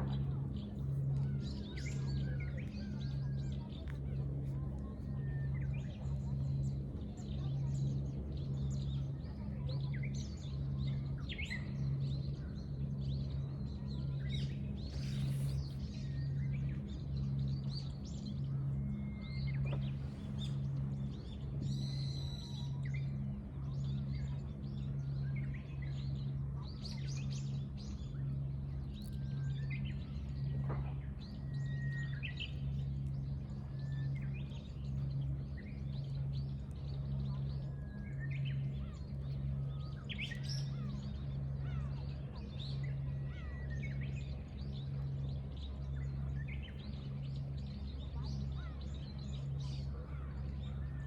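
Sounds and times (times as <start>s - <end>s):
steady low hum: 0.0s - 51.0s
small birds chirping: 0.1s - 51.0s.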